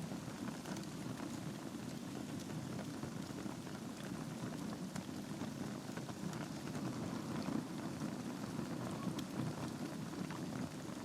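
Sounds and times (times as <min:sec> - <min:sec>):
wood fire crackling and popping: 0:00.1 - 0:10.9.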